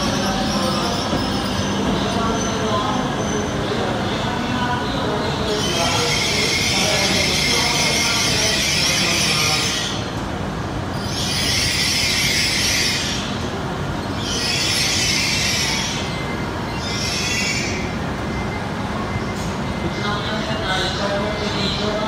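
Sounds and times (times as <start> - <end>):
high-pitched train squeal: 0.0 - 3.6, 5.4 - 10.1, 10.9 - 13.4, 14.0 - 22.0
train rumble: 0.0 - 22.0.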